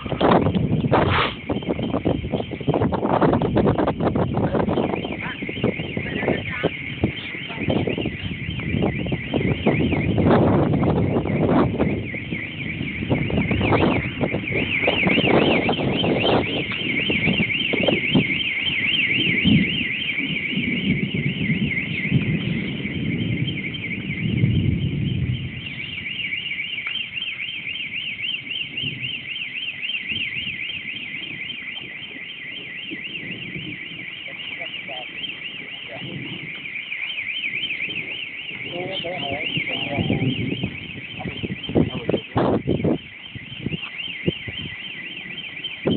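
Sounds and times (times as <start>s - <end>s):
low gusty rumble: 0.0s - 45.9s.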